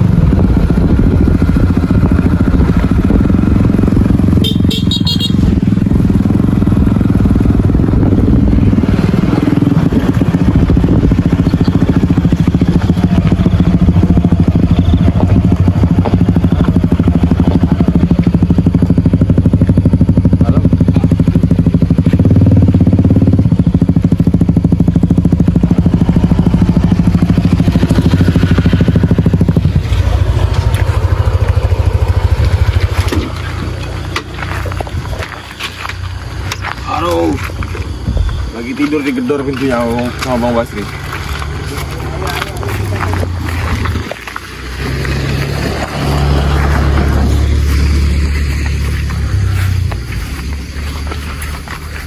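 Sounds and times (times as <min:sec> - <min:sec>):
motorcycle engines running: 0:00.0 - 0:52.0.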